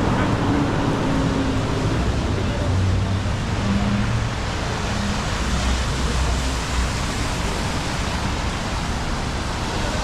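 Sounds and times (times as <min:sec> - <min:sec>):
low engine rumble: 0:00.0 - 0:10.0
street traffic: 0:00.0 - 0:10.0.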